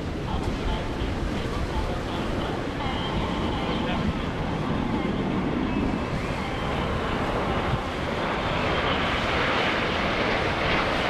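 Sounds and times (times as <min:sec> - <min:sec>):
jet roar overhead: 0:00.0 - 0:11.0
wind rumbling on microphone: 0:00.0 - 0:11.0.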